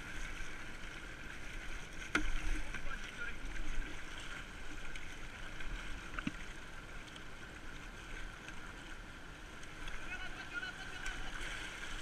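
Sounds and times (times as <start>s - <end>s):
paddle splashing: 0.0s - 12.0s
river water rushing around kayak: 0.0s - 12.0s.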